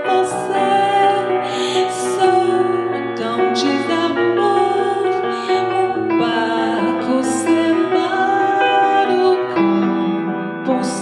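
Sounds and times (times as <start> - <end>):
keyboard music: 0.0 - 11.0
woman singing: 0.0 - 11.0.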